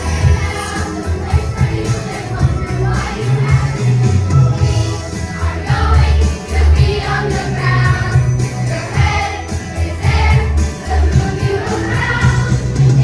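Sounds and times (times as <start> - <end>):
backing track with heavy bass: 0.0 - 13.0
children's choir singing: 0.0 - 13.0.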